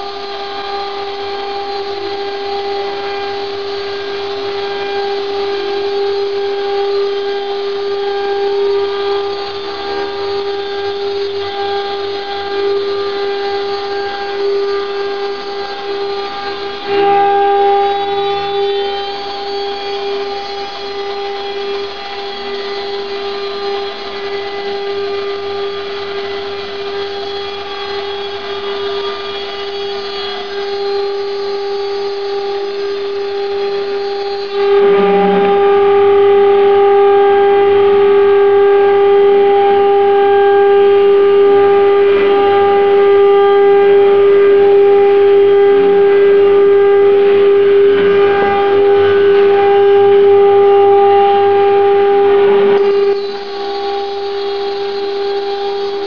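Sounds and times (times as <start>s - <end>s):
router spindle whining while milling: 0.0s - 56.0s.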